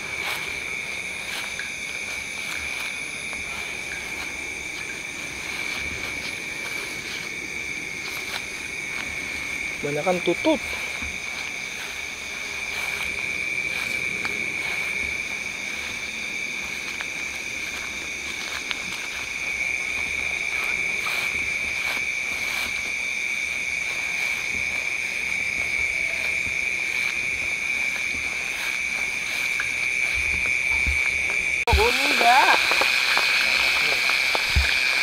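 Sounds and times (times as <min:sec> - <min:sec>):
insects and frogs chorus: 0:00.0 - 0:35.0.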